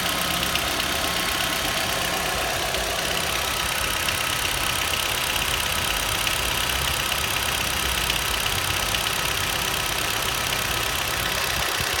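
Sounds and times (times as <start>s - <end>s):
car engine running: 0.0s - 12.0s
fast light engine ticking: 0.0s - 12.0s.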